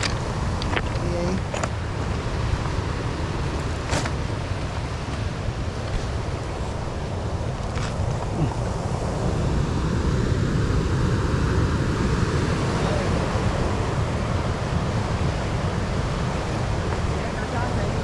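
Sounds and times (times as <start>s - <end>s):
surf on stony beach: 0.0s - 18.0s
wind buffeting microphone: 0.0s - 18.0s.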